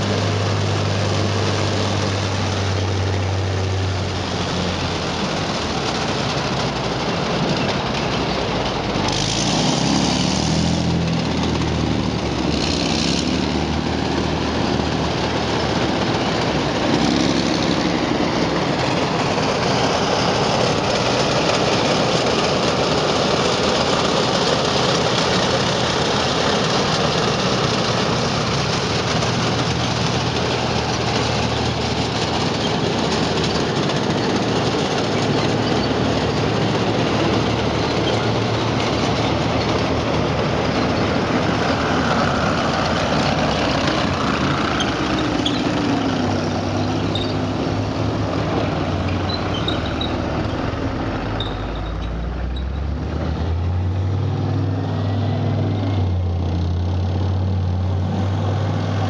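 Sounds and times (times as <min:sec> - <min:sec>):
heavy tank engines running: 0:00.0 - 0:59.0
steel tracks clattering on concrete: 0:00.1 - 0:53.4.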